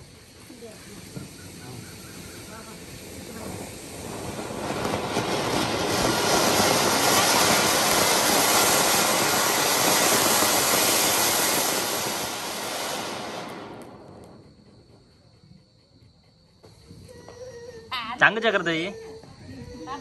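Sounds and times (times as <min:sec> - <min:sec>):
firework fountain hissing: 0:00.0 - 0:15.8, 0:18.0 - 0:18.9.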